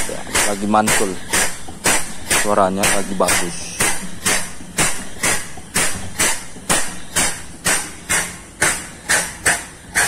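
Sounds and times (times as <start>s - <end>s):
vacuum pump knocking: 0.0s - 10.0s.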